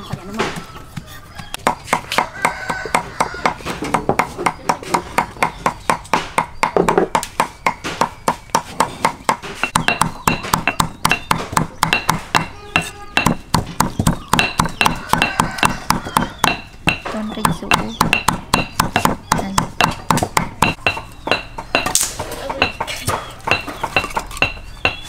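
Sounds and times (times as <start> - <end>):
cleaver chopping on wooden block: 1.5 - 25.0.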